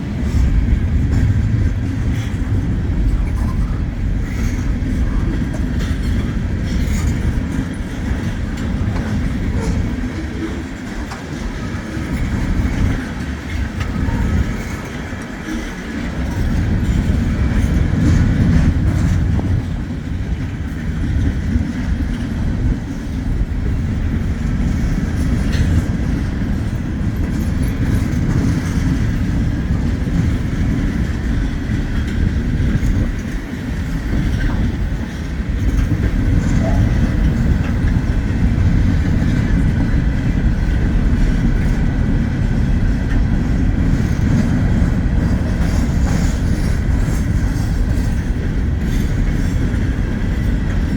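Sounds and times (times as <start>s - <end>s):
freight train wheels rumbling on rails: 0.0s - 50.9s.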